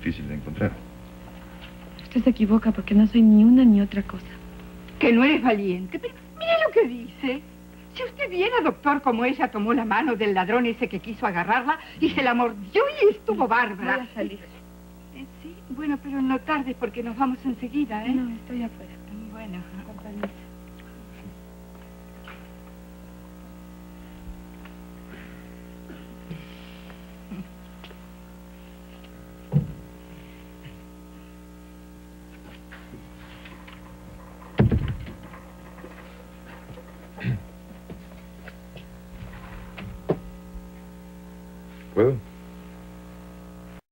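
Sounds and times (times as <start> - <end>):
electrical mains hum: 0.0 - 43.8.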